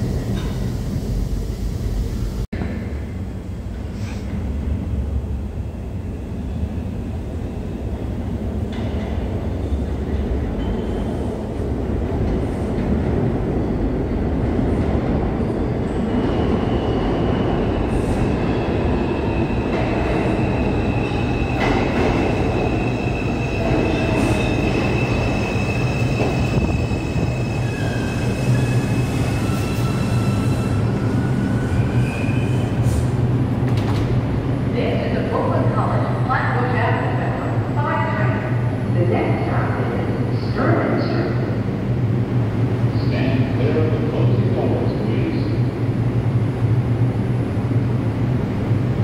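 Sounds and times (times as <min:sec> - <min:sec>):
subway train rumble: 0:00.0 - 0:49.0.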